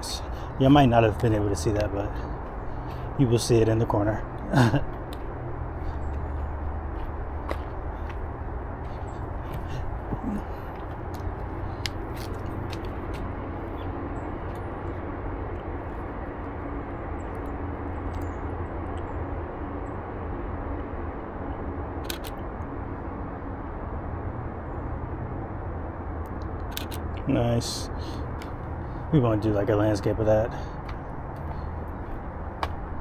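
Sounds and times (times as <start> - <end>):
low rumbling outdoor noise: 0.0 - 33.0.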